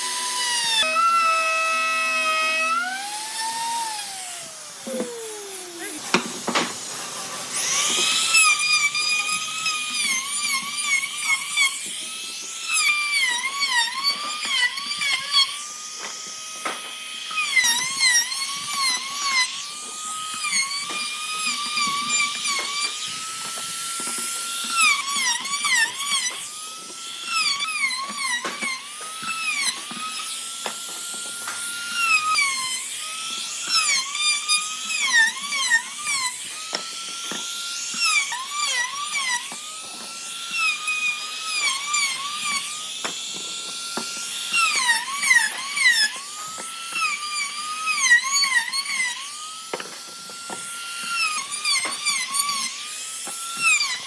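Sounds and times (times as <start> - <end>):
electric power tool whining: 0.0 - 54.0.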